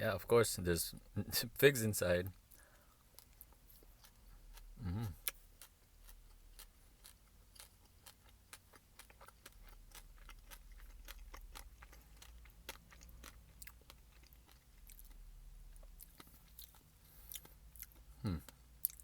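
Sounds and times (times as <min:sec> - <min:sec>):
chewing dried fig: 0:02.5 - 0:19.0.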